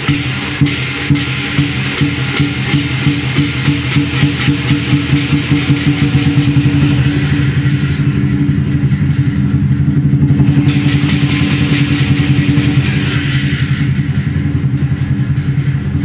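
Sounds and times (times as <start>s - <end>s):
drum beaten in fast roll: 0.0s - 16.0s
hand cymbals clashing: 0.0s - 16.0s.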